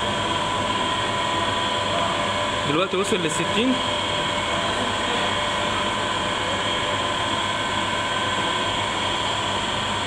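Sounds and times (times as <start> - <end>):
humidifier and fan whirring: 0.0 - 10.0
steady whining tones: 0.0 - 10.0.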